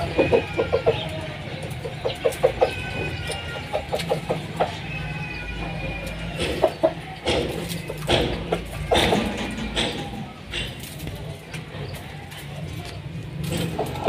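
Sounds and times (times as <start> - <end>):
bird clucking: 0.0 - 12.1.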